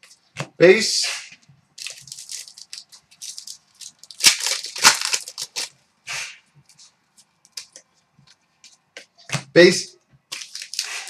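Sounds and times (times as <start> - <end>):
cards rustling and slapping: 1.2 - 9.5, 10.3 - 11.0.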